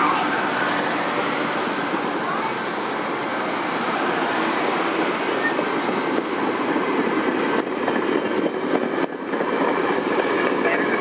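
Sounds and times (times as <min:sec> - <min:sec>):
train wheels running on rails: 0:00.0 - 0:11.0.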